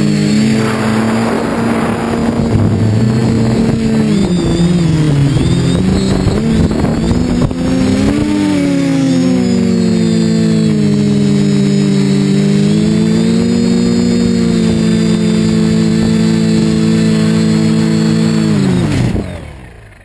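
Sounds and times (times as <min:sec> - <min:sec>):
drone motors humming: 0:00.0 - 0:20.0.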